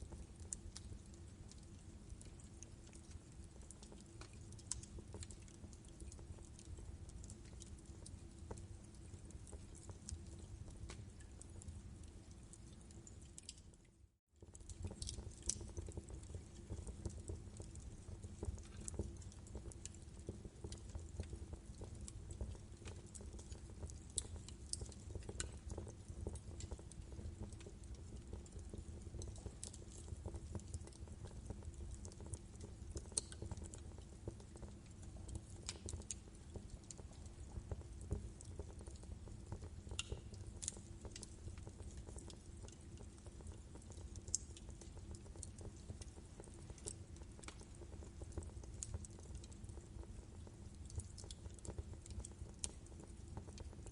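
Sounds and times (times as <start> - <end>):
wood fire crackling: 0.0 - 13.8, 14.4 - 53.9
fire pops and snaps: 0.4 - 13.7, 14.5 - 53.9.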